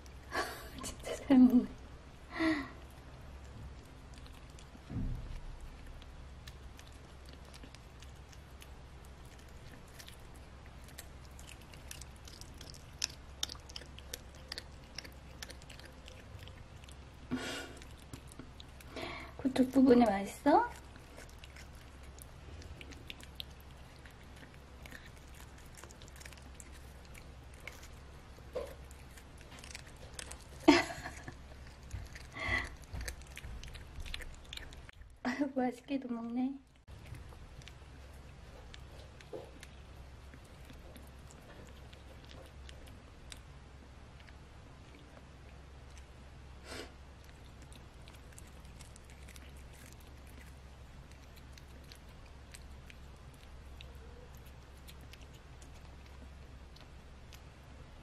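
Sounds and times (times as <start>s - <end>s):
cat crunching cabbage leaf: 0.0s - 35.3s, 36.6s - 57.9s.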